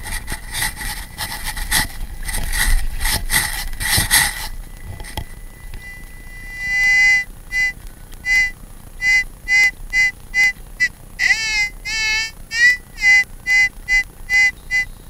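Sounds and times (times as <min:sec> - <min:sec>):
metal detector beeping: 0:00.0 - 0:15.0.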